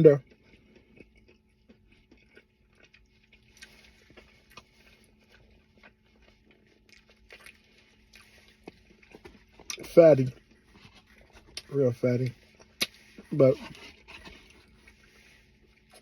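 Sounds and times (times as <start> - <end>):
person chewing food: 0.1 - 16.0.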